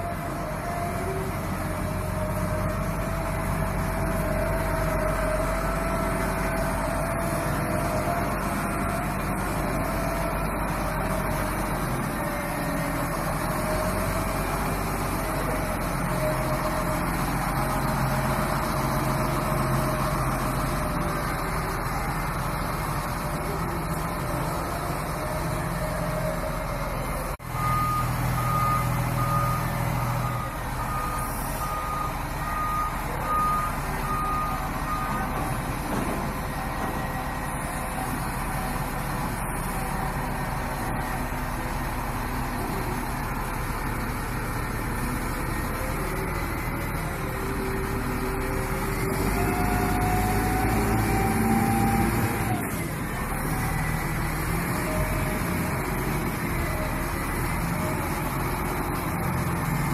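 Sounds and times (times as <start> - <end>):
diesel engine running: 0.0 - 59.9
reversing alarm beeping: 0.1 - 59.8.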